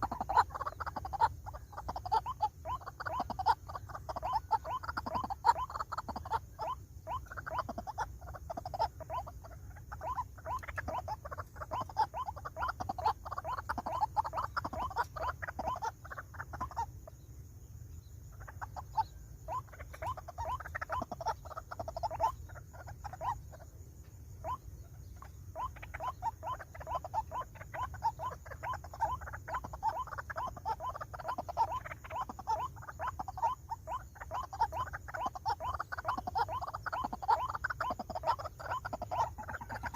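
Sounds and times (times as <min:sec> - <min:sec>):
rail croaking calls: 0:00.0 - 0:39.9.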